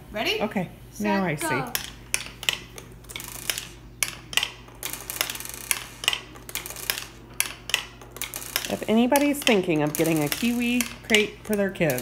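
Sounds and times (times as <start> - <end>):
marbles clicking on wooden ramps: 1.7 - 12.0.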